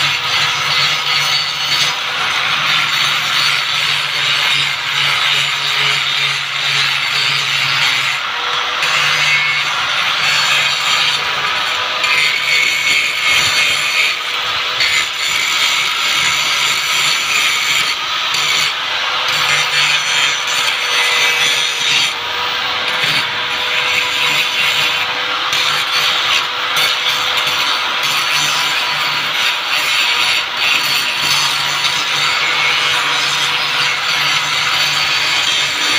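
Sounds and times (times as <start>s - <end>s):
angle grinder grinding steel: 0.0s - 35.9s.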